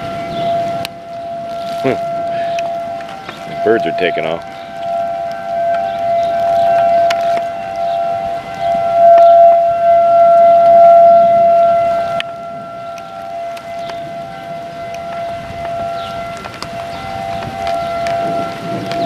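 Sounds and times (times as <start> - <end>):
warning siren wailing: 0.0 - 19.0.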